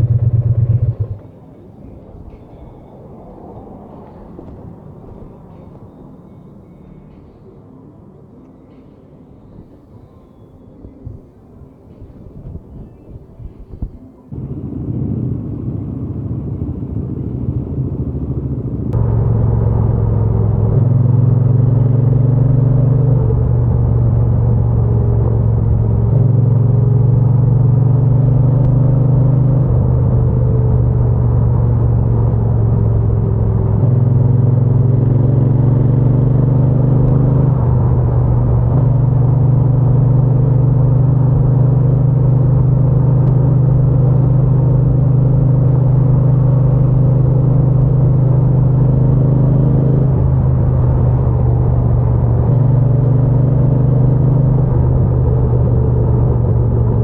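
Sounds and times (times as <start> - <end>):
motorcycle engine and exhaust: 0.0 - 6.2, 12.0 - 57.0.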